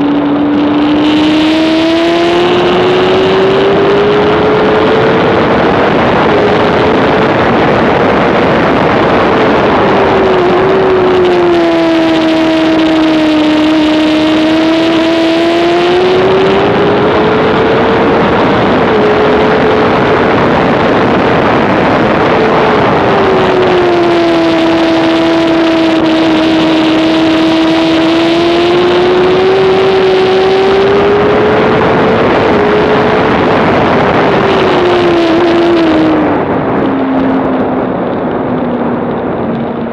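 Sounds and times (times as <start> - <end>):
motorcycle engine at high revs: 0.0 - 39.9
wind noise rushing: 0.0 - 39.9.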